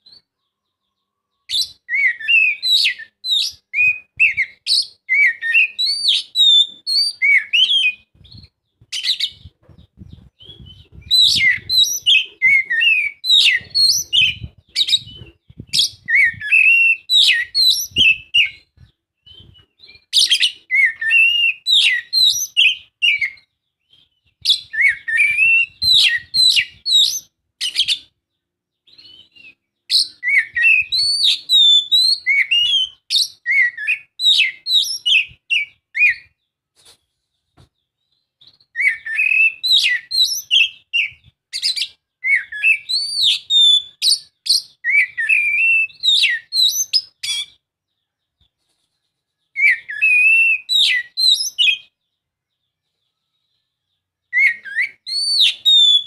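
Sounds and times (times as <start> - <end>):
bird singing whistled notes: 0.0 - 36.6, 37.8 - 48.4, 49.4 - 56.0.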